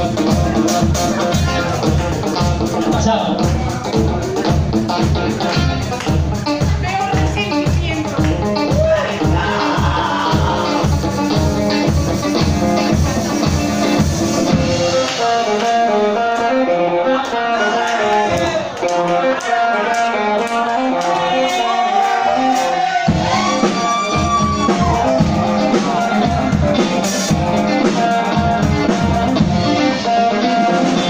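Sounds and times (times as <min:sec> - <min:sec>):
drums: 0:00.0 - 0:31.0
electric guitar: 0:00.0 - 0:31.0.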